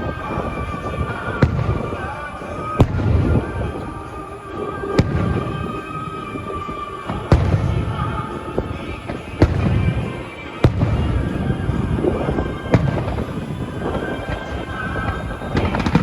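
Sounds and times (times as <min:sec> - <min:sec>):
faint fireworks pops: 0:00.0 - 0:16.0
fireworks banging: 0:00.0 - 0:16.0.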